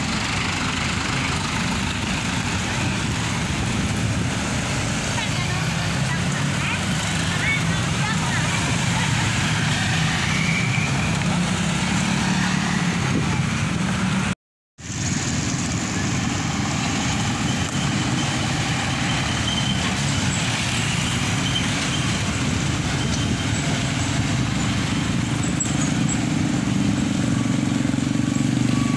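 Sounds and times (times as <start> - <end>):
cars and motorbikes passing: 0.0 - 28.9
truck diesel engine passing: 0.0 - 28.9.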